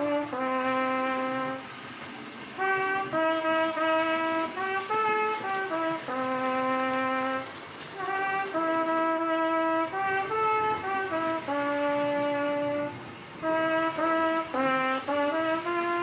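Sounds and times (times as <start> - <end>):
solo trumpet melody: 0.0 - 16.0.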